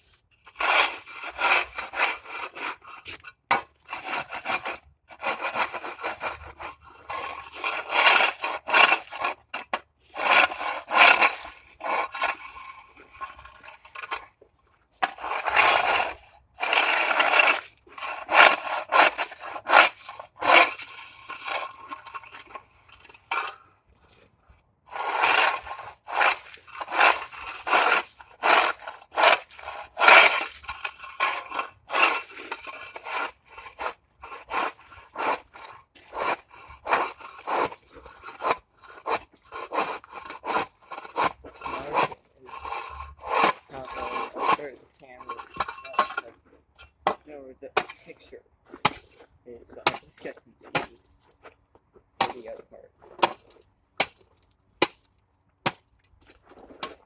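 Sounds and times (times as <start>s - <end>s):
ice chopper scraping ice: 0.4s - 14.4s, 15.0s - 24.3s, 24.9s - 55.0s, 55.6s - 57.0s.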